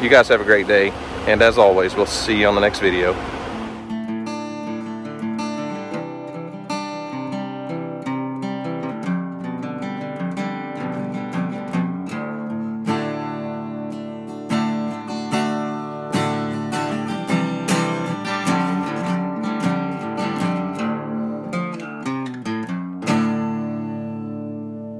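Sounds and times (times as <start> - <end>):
acoustic guitar music: 0.0 - 24.9.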